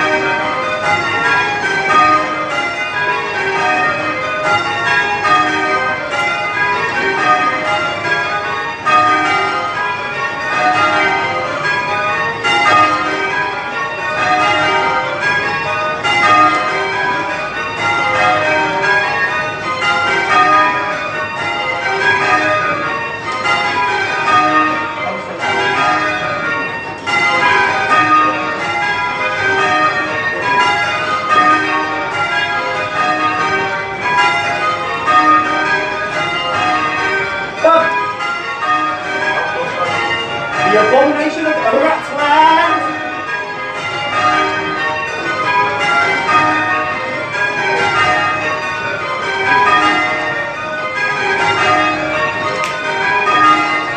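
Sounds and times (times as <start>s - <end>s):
tower bells change ringing: 0.0s - 53.9s.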